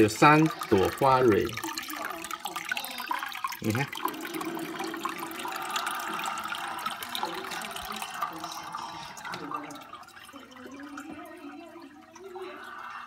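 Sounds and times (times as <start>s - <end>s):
aquarium water bubbling: 0.0s - 13.0s.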